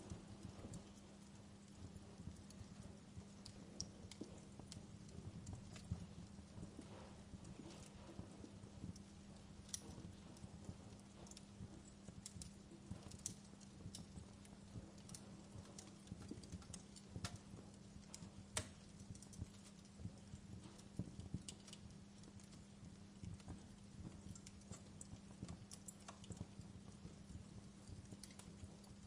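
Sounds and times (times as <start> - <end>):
steady low hum: 0.0 - 29.0
wood fire crackling: 0.0 - 29.0.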